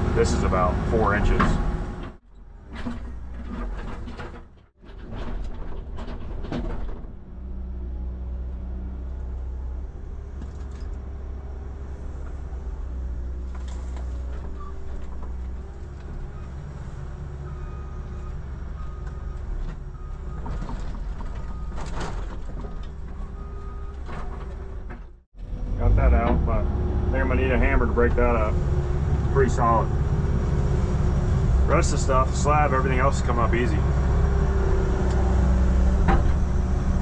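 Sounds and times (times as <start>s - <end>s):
excavator diesel engine: 0.0s - 37.0s.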